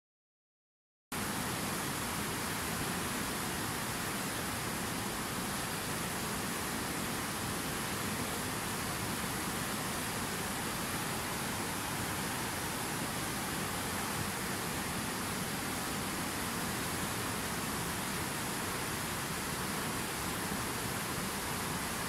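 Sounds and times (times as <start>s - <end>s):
river rushing over rocks: 1.2s - 22.0s.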